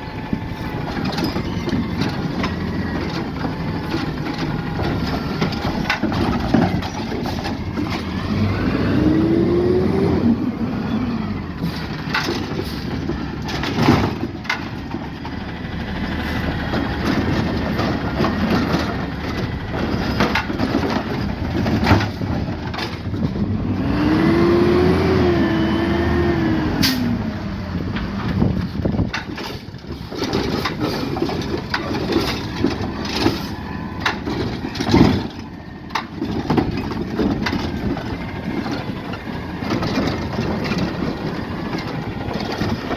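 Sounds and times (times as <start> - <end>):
bins banging and clattering: 0.0 - 42.9
truck engine revving: 0.0 - 42.9.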